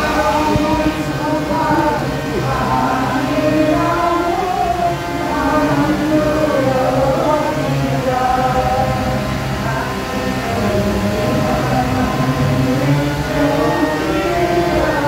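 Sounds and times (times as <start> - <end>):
women singing devotional chant: 0.0 - 15.0.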